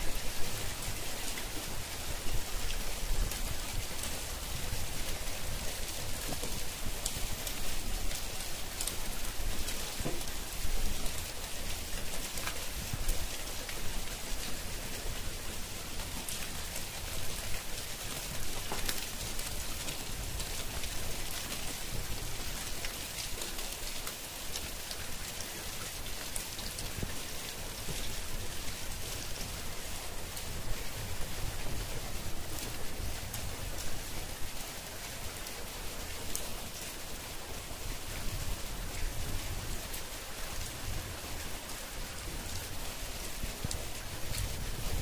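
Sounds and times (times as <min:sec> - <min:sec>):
rain hissing: 0:00.0 - 0:45.0
raindrops ticking close by: 0:00.0 - 0:45.0.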